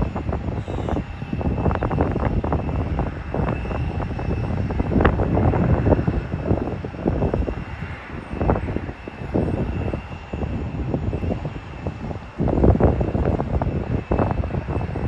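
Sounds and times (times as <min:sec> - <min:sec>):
jet engines whining: 0:00.0 - 0:15.0
wind buffeting microphone: 0:00.0 - 0:15.0.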